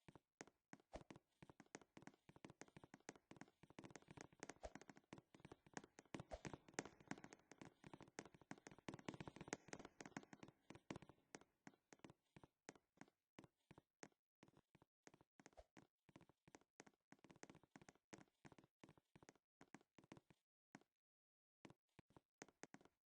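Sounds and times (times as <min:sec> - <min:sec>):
crackle of rapid clicks and pops: 0:00.0 - 0:20.9, 0:21.6 - 0:23.0.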